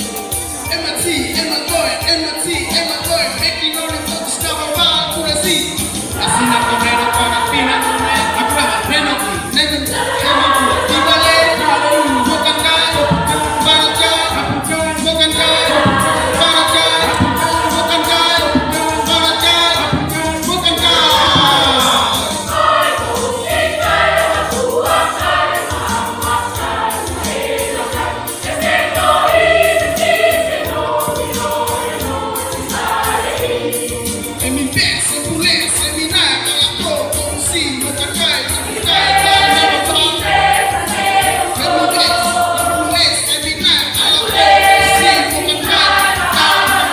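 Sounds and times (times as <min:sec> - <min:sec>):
church choir singing a hymn: 0:05.3 - 0:34.8, 0:37.9 - 0:46.9.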